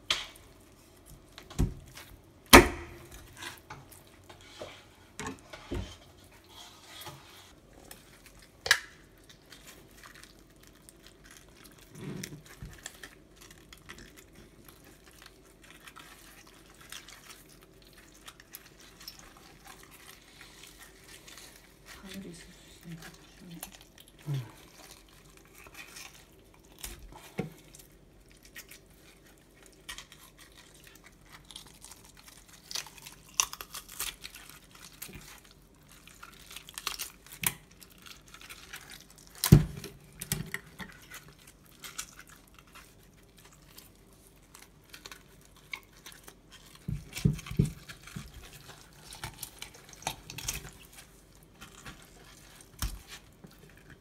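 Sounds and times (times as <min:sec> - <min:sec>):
wet squishing: 0:06.3 - 0:54.0.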